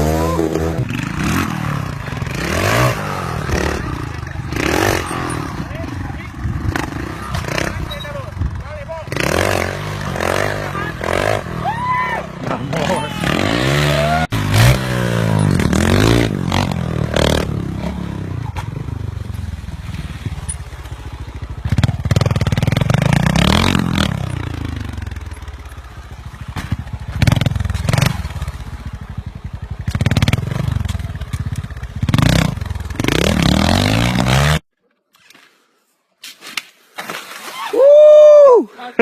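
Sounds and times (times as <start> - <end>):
motorcycle engines revving: 0.0 - 34.6.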